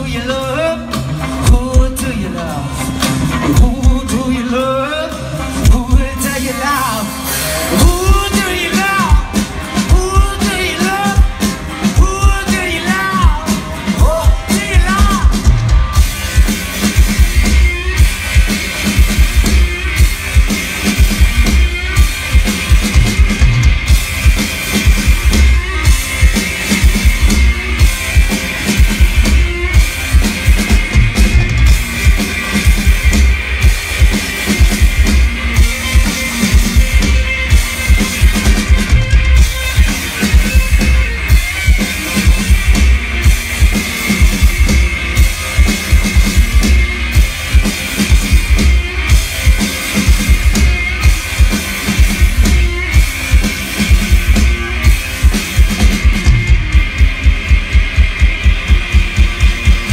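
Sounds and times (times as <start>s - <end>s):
distorted electric guitar: 0.0s - 59.9s
drum kit beating: 0.0s - 59.9s.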